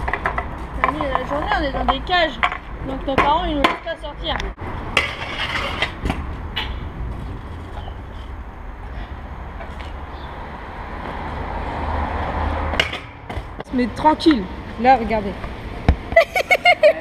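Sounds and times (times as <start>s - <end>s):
scooters clacking on concrete: 0.0s - 10.2s, 12.6s - 17.0s.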